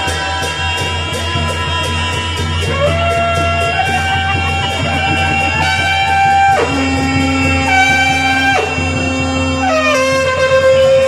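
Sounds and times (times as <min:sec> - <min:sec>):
wind instrument slow melody: 0:00.0 - 0:11.0.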